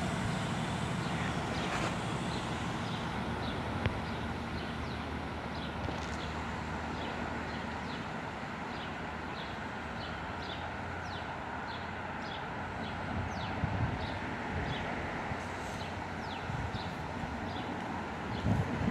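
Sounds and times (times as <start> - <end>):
diesel train rumbling: 0.0 - 18.9.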